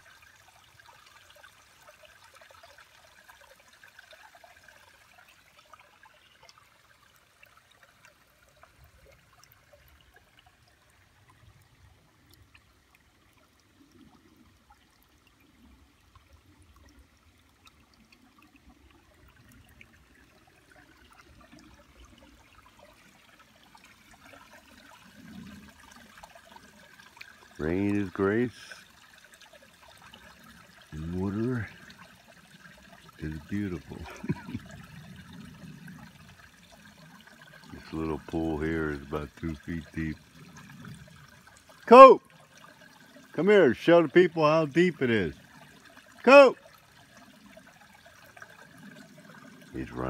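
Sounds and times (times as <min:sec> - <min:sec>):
creek water trickling over stones: 0:00.0 - 0:50.0.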